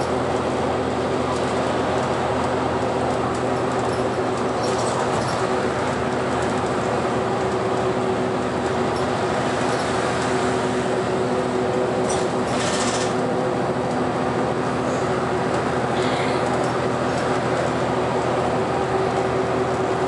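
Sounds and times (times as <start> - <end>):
bus engine drone: 0.0 - 20.0
tyre and road noise: 0.0 - 20.0.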